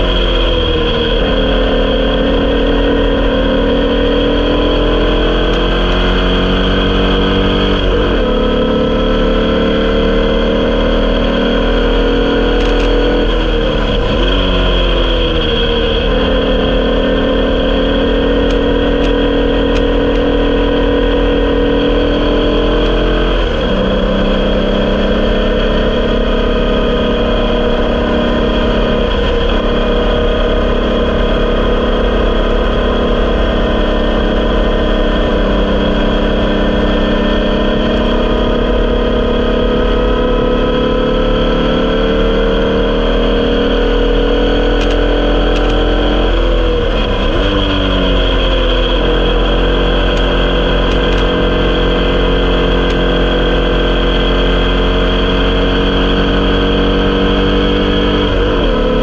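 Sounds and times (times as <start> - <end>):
racing car engine at speed: 0.0 - 59.0.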